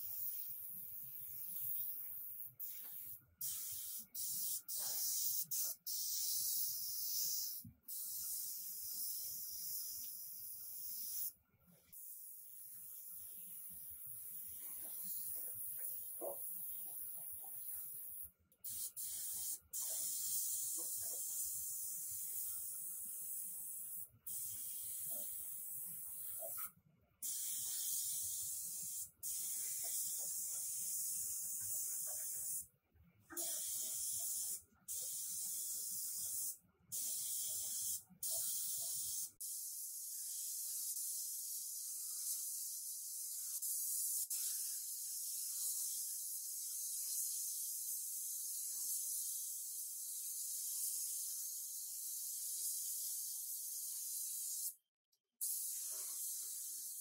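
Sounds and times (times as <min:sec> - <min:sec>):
paint spray gun hissing: 0:00.1 - 0:11.3, 0:12.0 - 0:26.6, 0:27.2 - 0:32.6, 0:33.4 - 0:54.8, 0:55.4 - 0:57.0.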